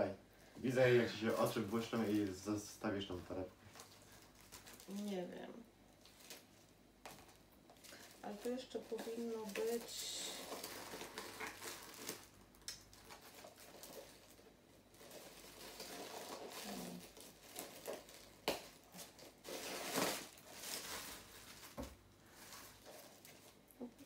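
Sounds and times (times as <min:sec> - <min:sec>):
plastic wrapping crinkling: 0:00.7 - 0:02.5, 0:03.1 - 0:24.0.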